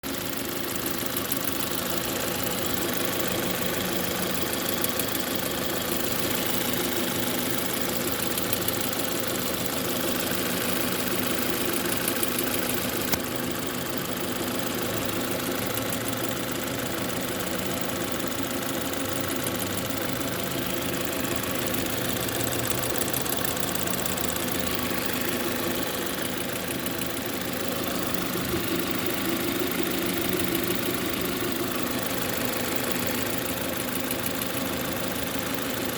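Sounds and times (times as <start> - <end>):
car engine idling: 0.0 - 35.9
rhythmic engine knock: 0.0 - 35.9.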